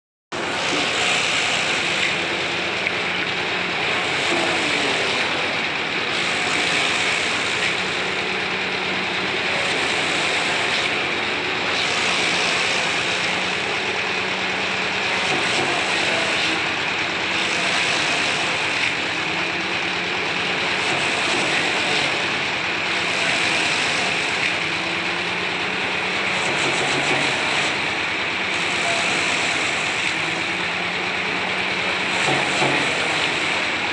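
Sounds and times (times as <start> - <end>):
wood-shavings machine whirring: 0.3 - 33.9.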